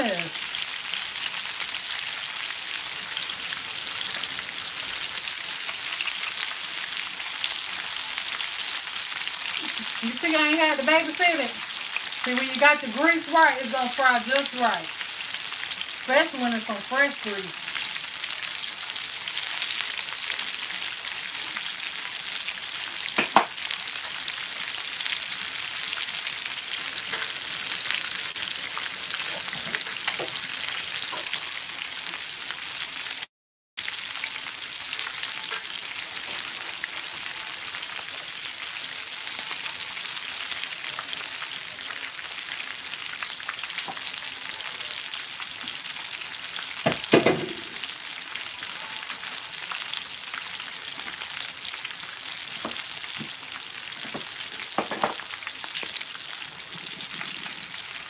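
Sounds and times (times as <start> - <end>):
fish deep-frying in oil: 0.0 - 58.0.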